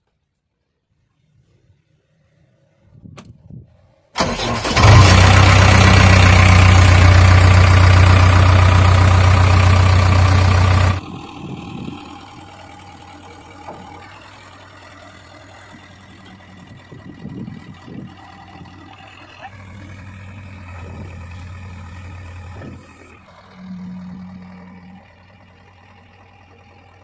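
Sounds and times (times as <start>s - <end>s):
diesel engine cranking and running: 4.2s - 27.0s.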